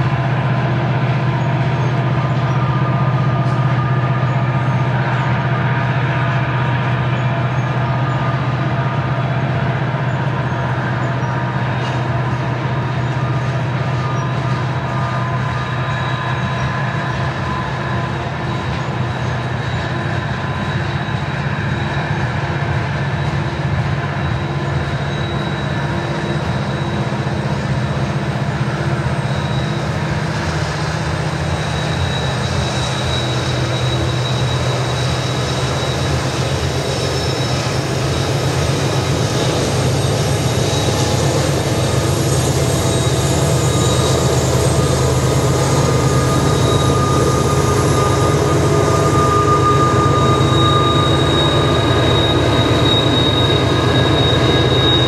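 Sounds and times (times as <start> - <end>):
train wheels rumbling on rail: 0.0 - 55.0
high-pitched wheel squeal: 0.9 - 55.0.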